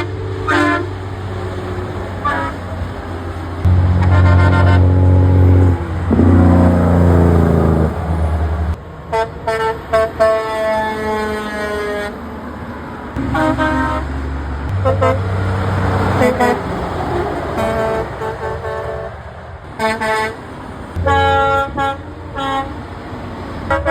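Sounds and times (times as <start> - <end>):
truck horns blasting: 0.0 - 12.2, 13.2 - 23.9
truck engine drone: 0.0 - 23.9.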